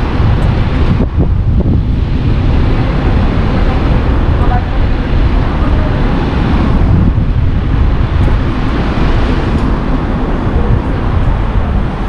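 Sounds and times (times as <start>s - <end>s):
car driving: 0.0s - 12.0s
road noise: 0.0s - 12.0s
wind noise on microphone: 0.0s - 12.0s.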